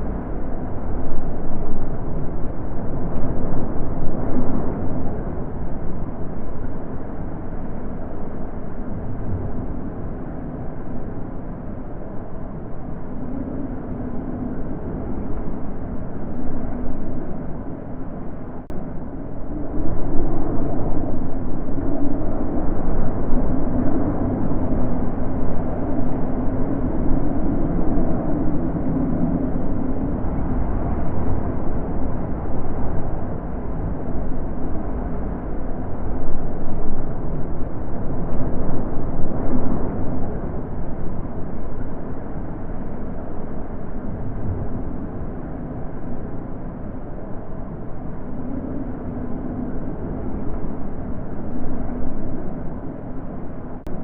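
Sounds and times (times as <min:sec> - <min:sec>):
wind blowing: 0:00.0 - 0:54.0.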